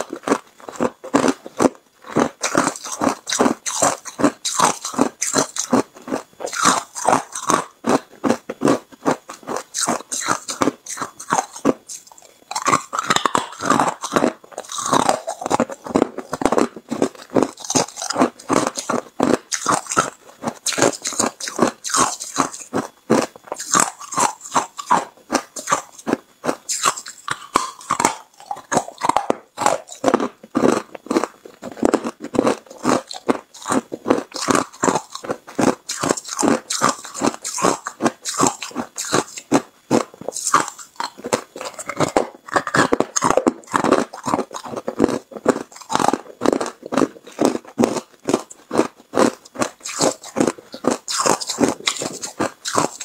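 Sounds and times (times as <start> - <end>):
person chewing ice: 0.0 - 53.0.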